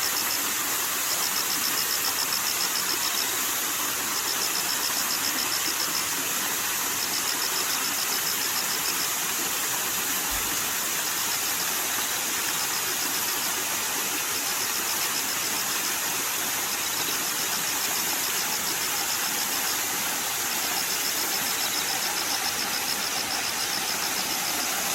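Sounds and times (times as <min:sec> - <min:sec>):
flowing water rushing: 0:00.0 - 0:24.9
insects chirping in trills: 0:00.0 - 0:24.9.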